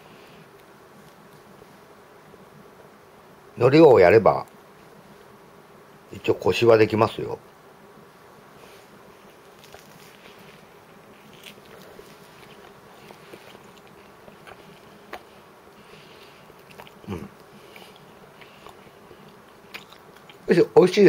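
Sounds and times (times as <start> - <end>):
faint buzzing hum: 0.0 - 21.0.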